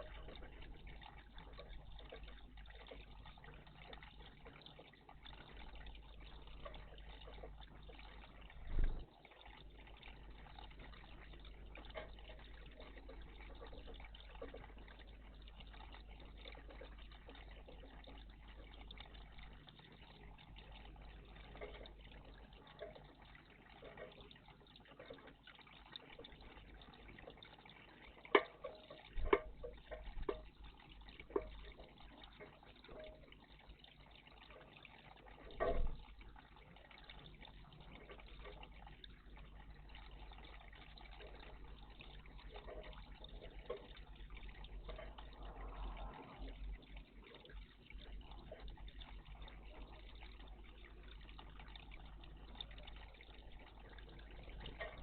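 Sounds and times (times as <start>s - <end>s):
water trickling and dripping: 0.0s - 55.0s.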